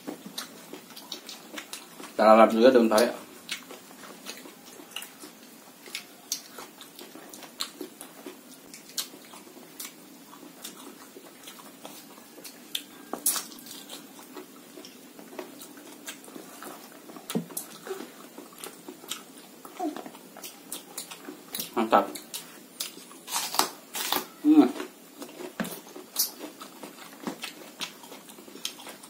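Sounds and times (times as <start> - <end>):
people chewing food: 0.0 - 29.0.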